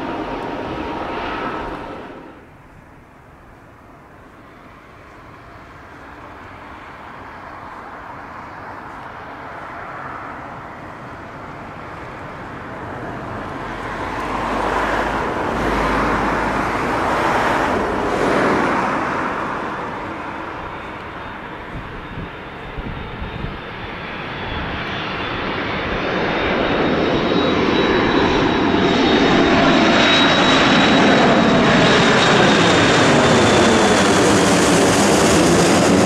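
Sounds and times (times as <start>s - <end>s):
jet engines on approach: 0.0s - 36.0s.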